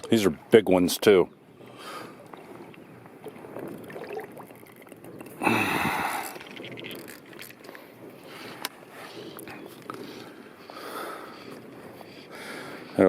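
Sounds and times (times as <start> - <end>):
water sloshing and splashing: 1.5 - 12.9.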